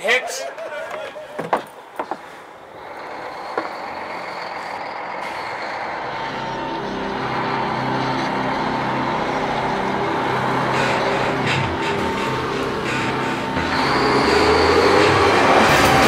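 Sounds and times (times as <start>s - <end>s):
diesel truck engine approaching: 1.8s - 16.0s.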